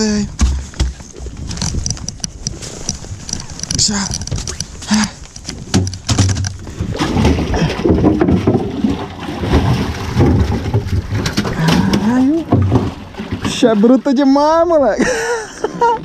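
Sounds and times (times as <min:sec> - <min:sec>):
water sloshing around boat: 0:00.0 - 0:16.0
sharp clicks and knocks: 0:00.3 - 0:13.4.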